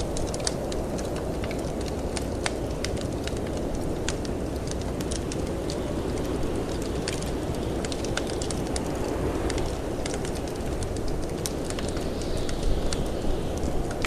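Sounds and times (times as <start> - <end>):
low rush of wind: 0.0 - 14.0
wood fire crackling: 0.0 - 14.0.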